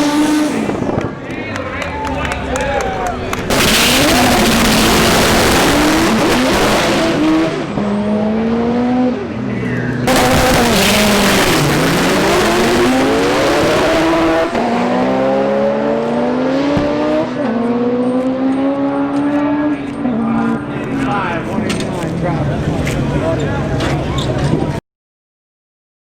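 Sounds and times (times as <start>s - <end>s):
car engine accelerating hard: 0.0s - 1.4s, 2.5s - 24.8s.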